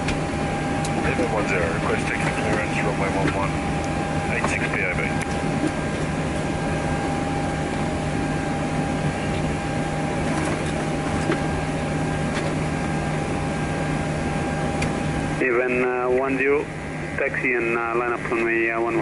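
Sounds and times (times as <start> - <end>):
aircraft cockpit systems humming: 0.0 - 19.0.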